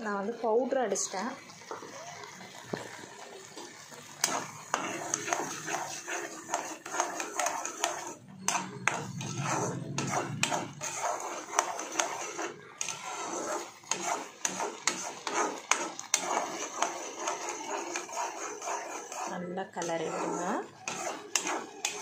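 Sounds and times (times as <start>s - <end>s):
spatula scraping and knocking a pan: 4.2s - 22.0s.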